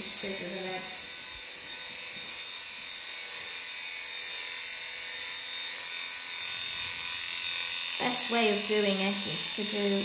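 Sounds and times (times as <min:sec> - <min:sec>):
electric clippers humming: 0:00.0 - 0:10.0.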